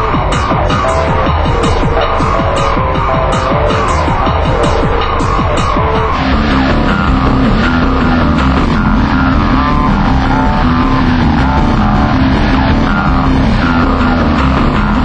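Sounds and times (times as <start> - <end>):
loud electronic music: 0.0 - 15.0.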